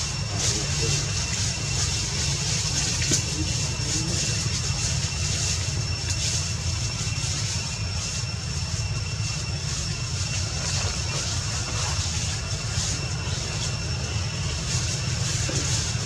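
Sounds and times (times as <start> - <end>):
high pulsing whine: 0.0 - 16.0.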